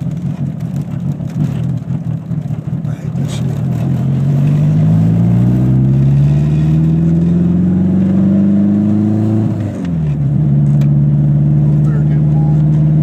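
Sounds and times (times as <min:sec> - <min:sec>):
turbocharged engine accelerating: 0:00.0 - 0:13.0.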